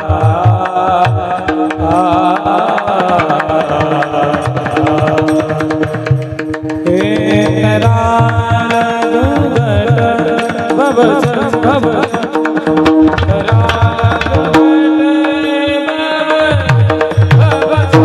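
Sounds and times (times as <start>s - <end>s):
hand drum beating: 0.0s - 18.0s.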